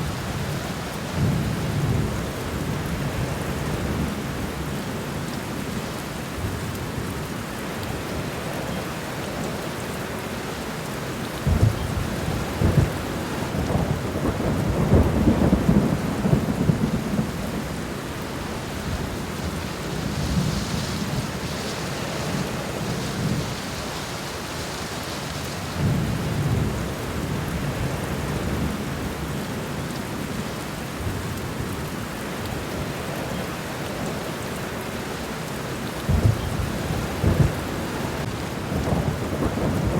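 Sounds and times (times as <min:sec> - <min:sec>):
steady rain on ground: 0:00.0 - 0:39.9.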